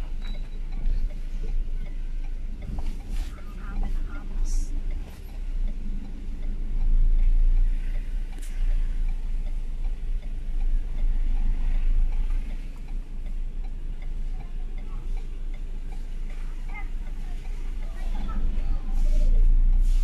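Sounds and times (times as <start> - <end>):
low rumble inside truck cab: 0.0 - 20.0.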